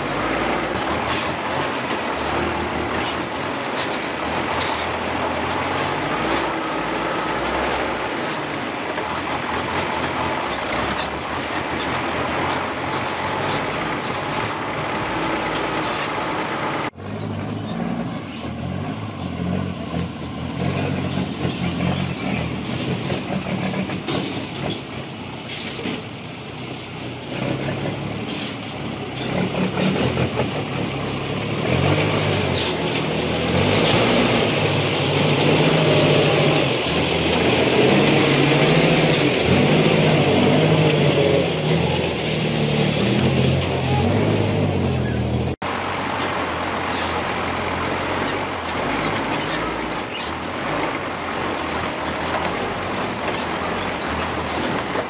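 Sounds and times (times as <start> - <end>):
truck engine under load: 0.0 - 55.0.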